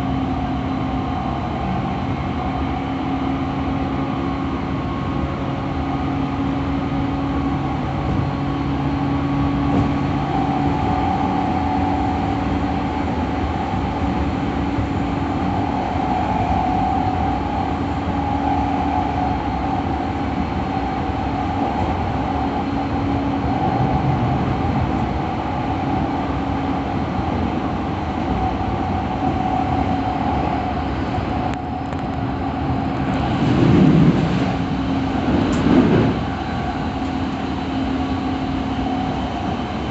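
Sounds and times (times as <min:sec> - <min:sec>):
train motor hum: 0:00.0 - 0:39.9
train wheels rumbling on rails: 0:00.0 - 0:39.9.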